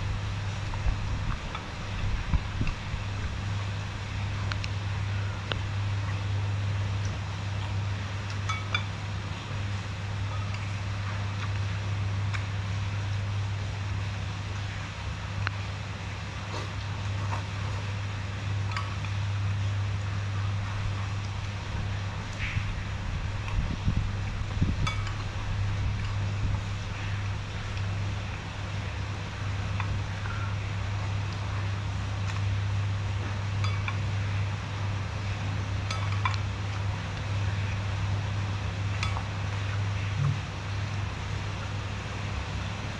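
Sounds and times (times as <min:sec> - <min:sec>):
constant low hum: 0:00.0 - 0:42.9.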